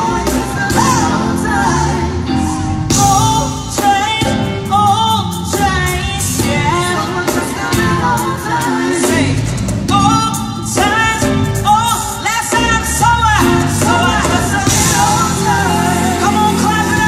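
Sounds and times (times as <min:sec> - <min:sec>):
song with singing over band: 0:00.0 - 0:17.0.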